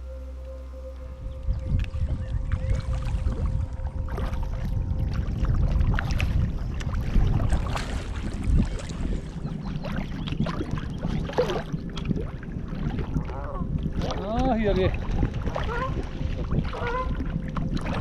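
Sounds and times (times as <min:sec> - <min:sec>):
wind rumble on microphone: 0:00.0 - 0:18.0
water splashing around kayak: 0:01.0 - 0:18.0.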